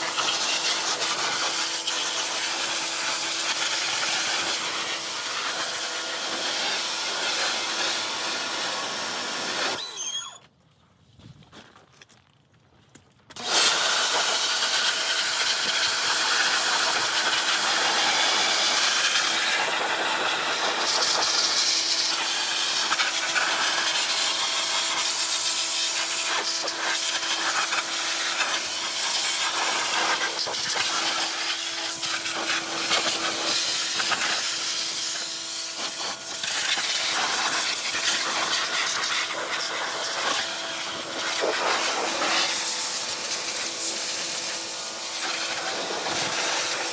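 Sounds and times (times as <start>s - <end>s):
high-pressure water spray hissing: 0.0s - 9.9s, 13.4s - 46.9s.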